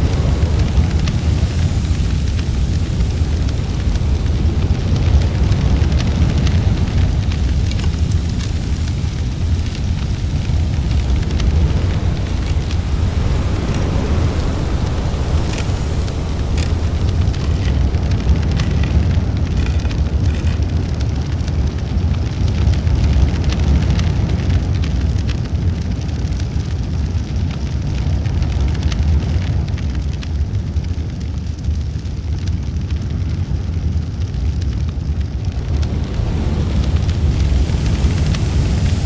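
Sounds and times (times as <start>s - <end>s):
fire crackling and popping: 0.0s - 39.0s
fire flames rushing: 0.0s - 39.0s.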